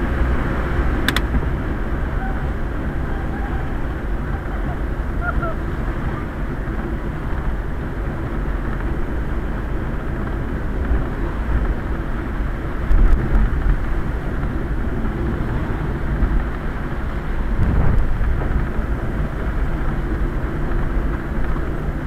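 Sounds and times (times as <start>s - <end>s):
velomobile rolling on wet road: 0.0s - 22.0s.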